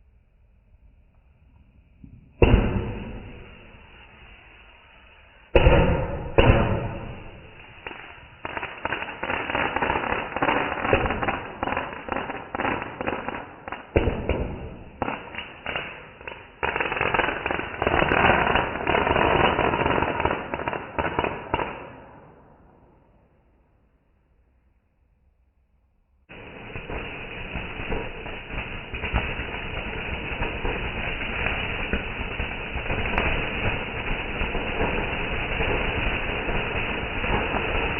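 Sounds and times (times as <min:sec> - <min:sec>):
fireworks crackling and popping: 0:02.4 - 0:22.5, 0:26.3 - 0:37.9
firework bangs: 0:02.4 - 0:22.9, 0:26.3 - 0:37.9.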